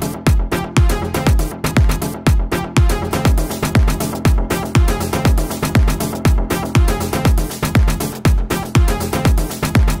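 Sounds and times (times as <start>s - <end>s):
electronic dance beat: 0.0s - 10.0s
kick drum: 0.0s - 10.0s
synth bass: 0.0s - 10.0s.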